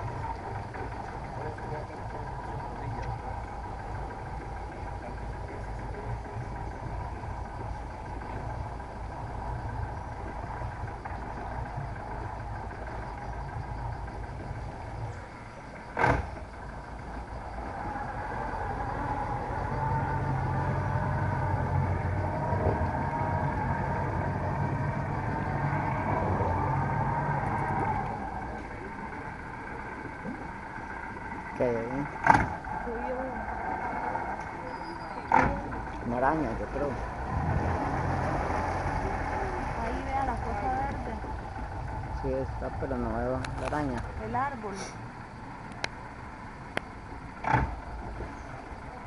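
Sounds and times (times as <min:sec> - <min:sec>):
boat motor running: 0:00.0 - 0:49.0
insect drone: 0:00.0 - 0:49.0.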